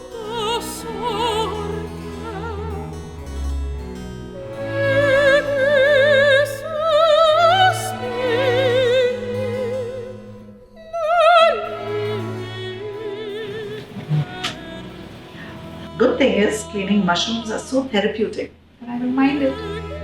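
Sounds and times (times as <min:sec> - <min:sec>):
operatic singing: 0:00.0 - 0:20.0
orchestral accompaniment: 0:00.0 - 0:20.0.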